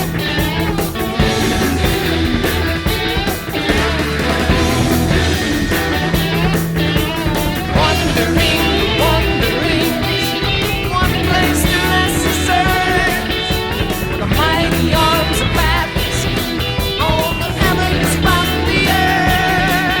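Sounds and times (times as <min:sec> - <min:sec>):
rock song with guitar: 0:00.0 - 0:20.0.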